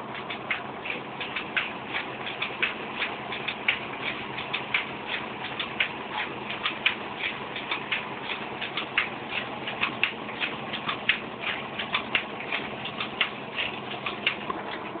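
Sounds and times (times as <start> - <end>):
mechanical hum: 0.0 - 15.0
printing press clattering: 0.0 - 15.0.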